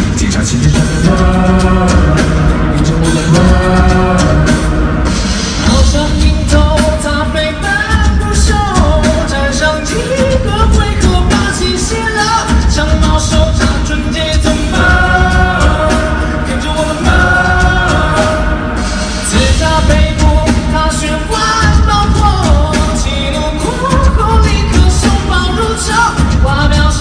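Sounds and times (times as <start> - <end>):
full band with heavy bass and drums: 0.0 - 27.0
man singing: 0.0 - 27.0.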